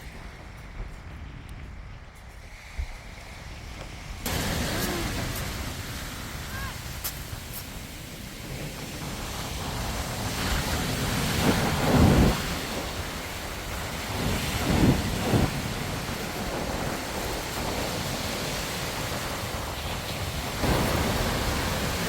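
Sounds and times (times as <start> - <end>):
sea waves washing ashore: 0.0 - 22.0
wind rumbling on microphone: 0.0 - 22.0.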